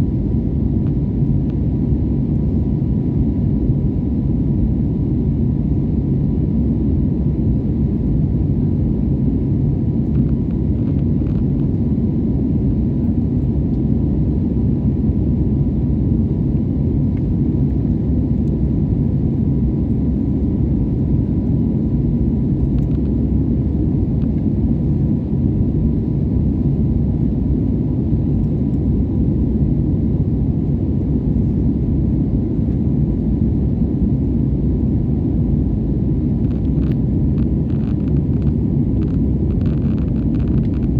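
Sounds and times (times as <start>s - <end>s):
faint steady hum: 0.0s - 40.9s
jet airliner rumble in flight: 0.0s - 40.9s.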